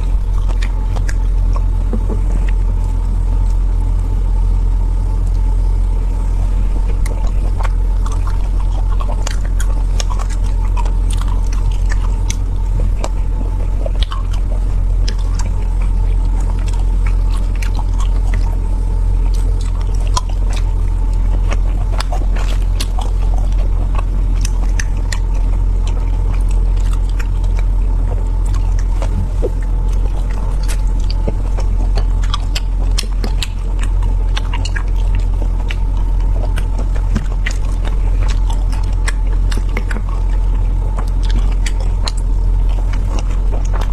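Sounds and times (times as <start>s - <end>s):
faint whine: 0.0s - 43.9s
low hum: 0.0s - 43.9s
person chewing food: 0.0s - 43.9s.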